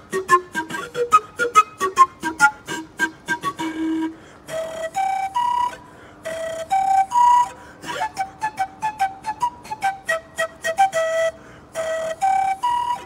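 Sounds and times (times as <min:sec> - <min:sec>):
panpipes melody: 0:00.0 - 0:13.0.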